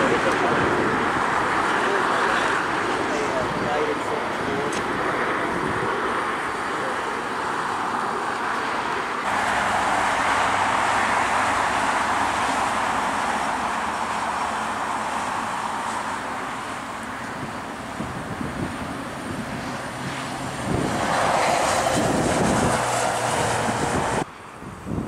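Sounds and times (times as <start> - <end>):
distant jet engines rushing: 0.0 - 25.0
road traffic: 0.0 - 25.0.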